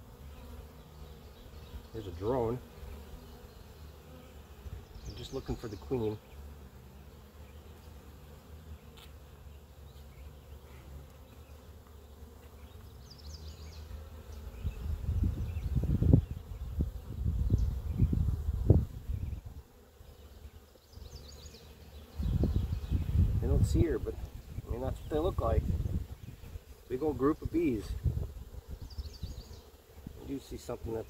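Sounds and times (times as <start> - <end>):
honeybees buzzing: 0.0 - 31.0.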